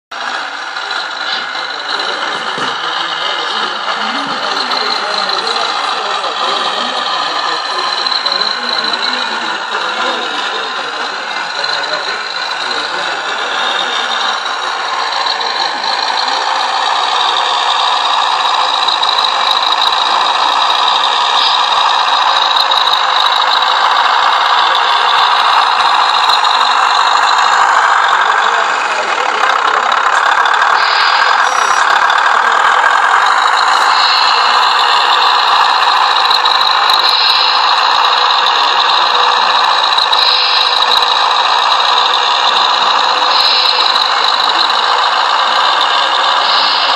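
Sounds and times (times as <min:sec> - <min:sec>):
electric motor whining and rattling: 0:00.2 - 0:46.9.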